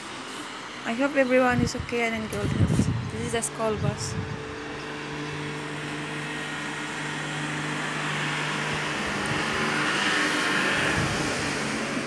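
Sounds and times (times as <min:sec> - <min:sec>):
bus engine humming: 0:00.0 - 0:12.0.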